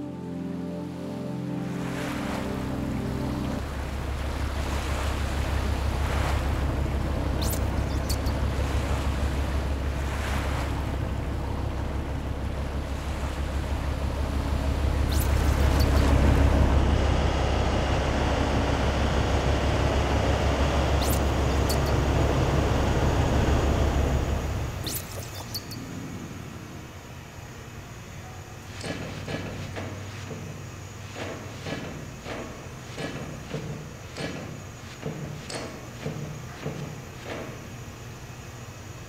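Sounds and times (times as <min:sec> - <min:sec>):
low engine rumble: 0:00.0 - 0:39.0
ocean waves washing: 0:00.0 - 0:39.0.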